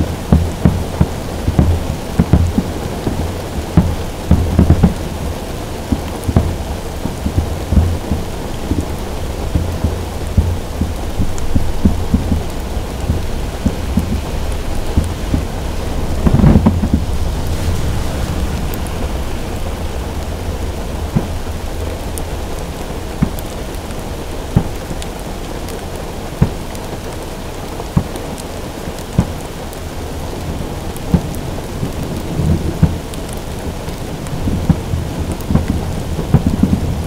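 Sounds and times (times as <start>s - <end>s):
heavy rain on a car roof: 0.0s - 37.0s.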